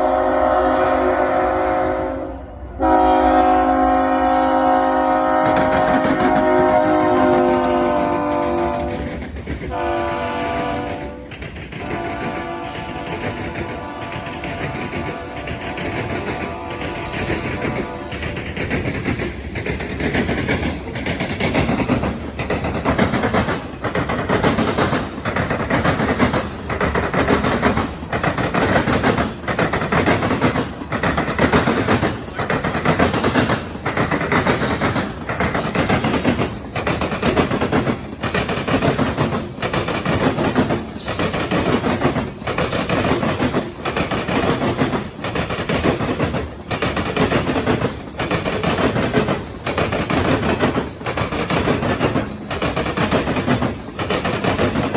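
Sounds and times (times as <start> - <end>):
train wheels clattering over crossing: 2.8 - 54.9.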